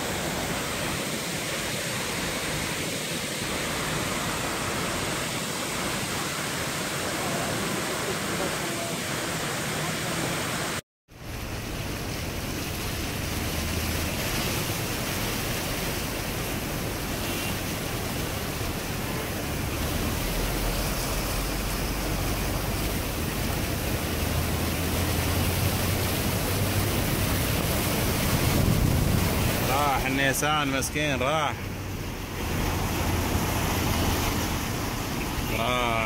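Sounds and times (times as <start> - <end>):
flood water rushing: 0.0 - 36.0.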